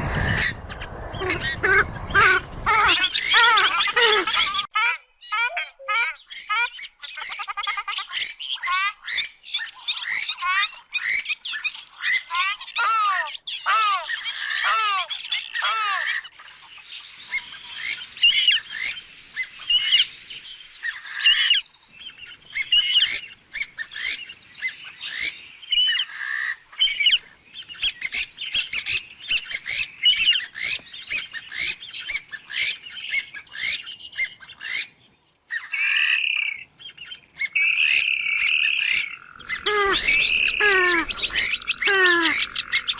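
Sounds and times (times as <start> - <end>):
bird squawking calls: 0.0 - 42.9.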